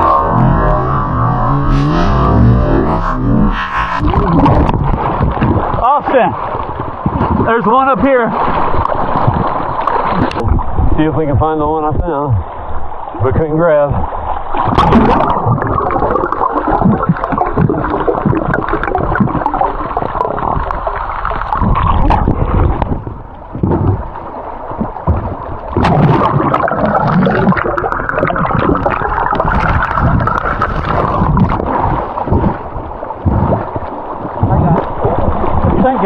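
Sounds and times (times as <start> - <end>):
knocks underwater: 0.0 - 5.8, 6.4 - 7.7, 8.4 - 11.6, 14.0 - 36.0
underwater river current rushing: 0.0 - 36.0.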